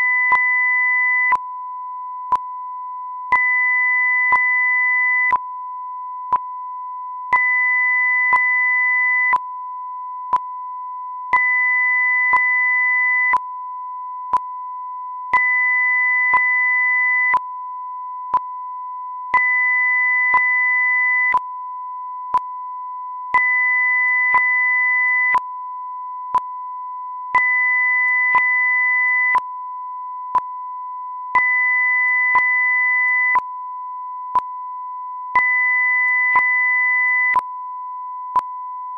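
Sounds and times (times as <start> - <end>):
steady sine-wave test tone: 0.0 - 38.9.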